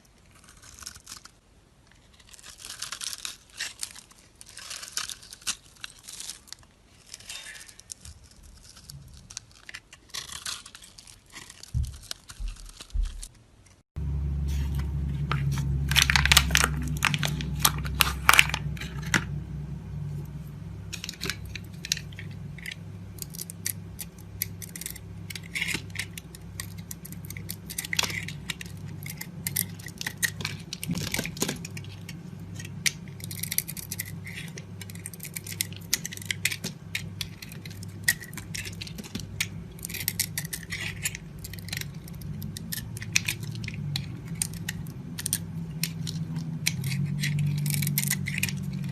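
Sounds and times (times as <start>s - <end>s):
low steady hum: 0.0s - 48.9s
knife scraping bar soap: 0.1s - 13.2s, 20.9s - 48.9s.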